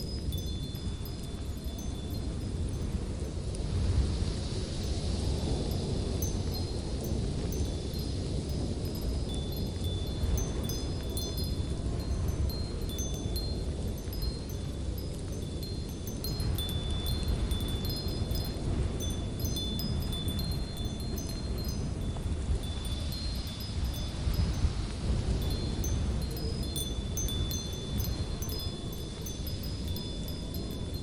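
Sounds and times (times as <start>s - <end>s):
wind chimes ringing: 0.0s - 3.5s, 4.8s - 31.0s
low rumble of wind: 0.0s - 31.0s.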